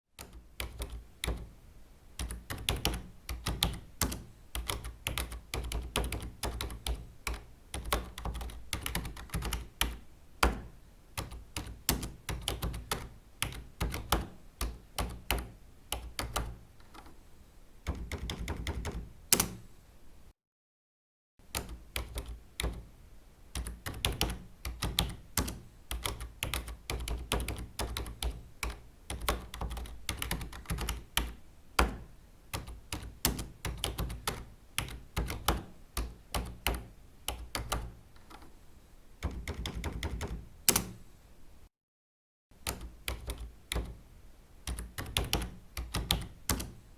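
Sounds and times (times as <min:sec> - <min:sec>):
typing on computer keyboard: 0:00.2 - 0:01.6, 0:02.2 - 0:17.2, 0:17.8 - 0:19.7, 0:21.5 - 0:22.9, 0:23.6 - 0:38.5, 0:39.2 - 0:41.0, 0:42.6 - 0:44.0, 0:44.6 - 0:46.8.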